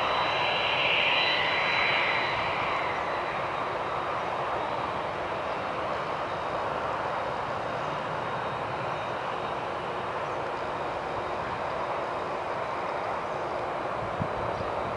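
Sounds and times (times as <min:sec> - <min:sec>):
jet engines roaring: 0:00.0 - 0:14.9.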